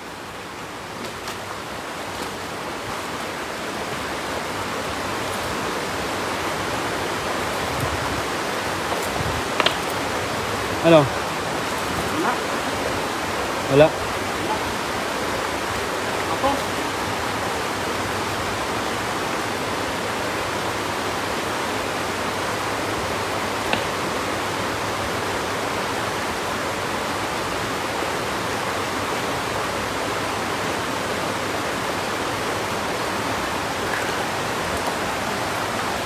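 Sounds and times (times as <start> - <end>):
river flowing over stones: 0.0 - 36.0.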